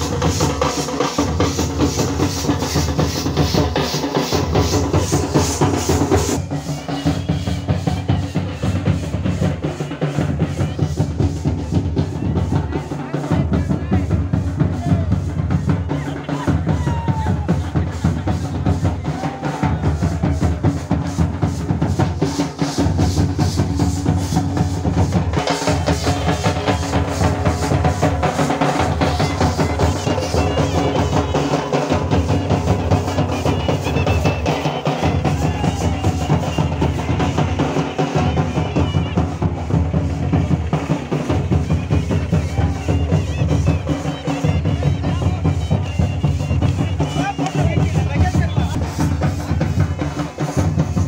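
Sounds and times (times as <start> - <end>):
procession drums beating: 0.0 - 51.0.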